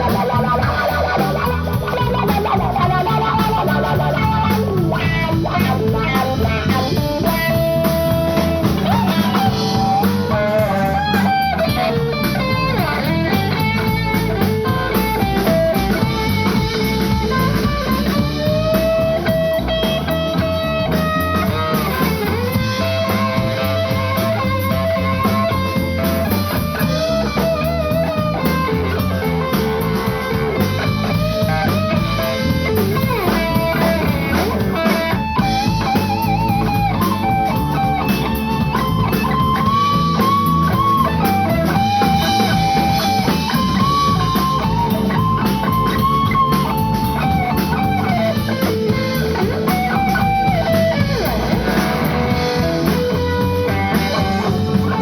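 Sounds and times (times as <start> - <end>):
bass guitar: 0.0 - 55.0
drum kit: 0.0 - 55.0
electric guitar bending notes: 0.0 - 55.0.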